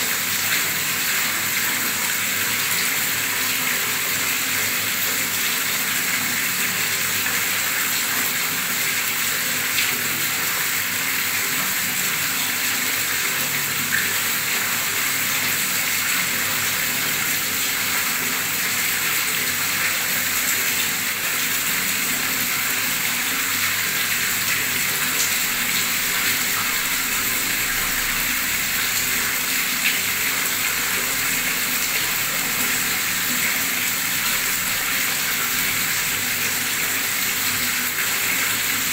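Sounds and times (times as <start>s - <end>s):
tap water gushing into water: 0.0s - 38.9s.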